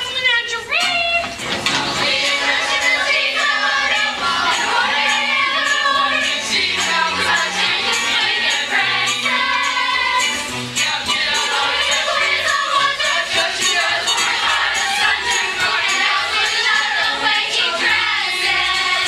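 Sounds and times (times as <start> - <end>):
choir singing show tune: 0.8 - 19.0
instrumental accompaniment: 0.8 - 19.0
jingling percussion beat: 0.8 - 19.0.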